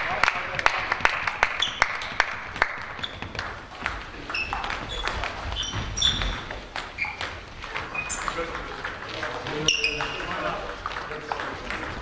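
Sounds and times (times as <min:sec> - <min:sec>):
sports shoes squeaking on floor: 0:01.5 - 0:02.2, 0:02.8 - 0:12.0.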